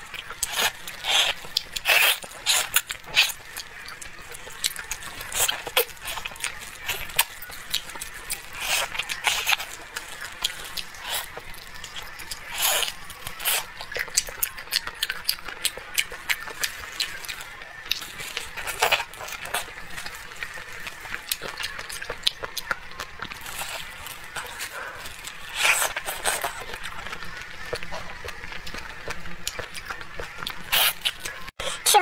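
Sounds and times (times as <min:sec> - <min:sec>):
person chewing with wet mouth clicks: 0:00.1 - 0:31.5.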